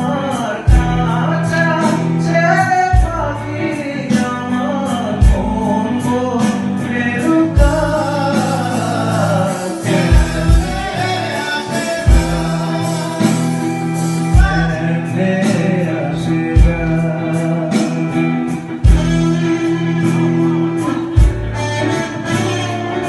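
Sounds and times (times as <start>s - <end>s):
electric guitars: 0.0s - 23.0s
man singing: 0.0s - 23.0s.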